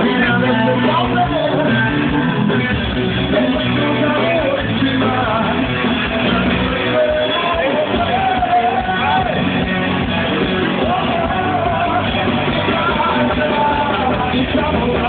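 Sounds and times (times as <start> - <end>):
live rock music: 0.0 - 15.0.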